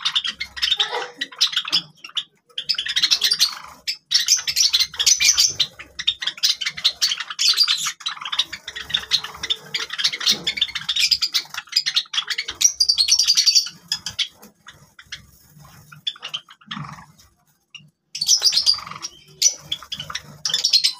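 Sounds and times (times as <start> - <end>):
sparrows chirping: 0.0 - 20.9.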